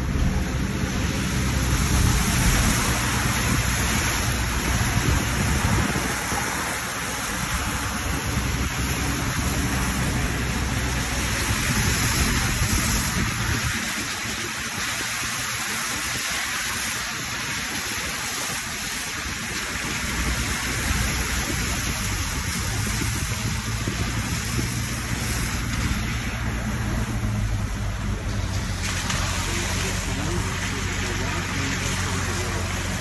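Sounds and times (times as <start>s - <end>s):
engine low drone: 0.0s - 33.0s
wheels churning water: 0.0s - 33.0s.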